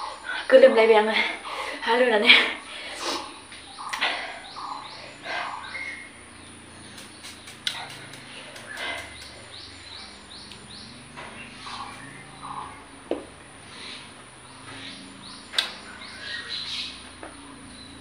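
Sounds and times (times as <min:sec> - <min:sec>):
bird chirping: 0:02.6 - 0:18.0.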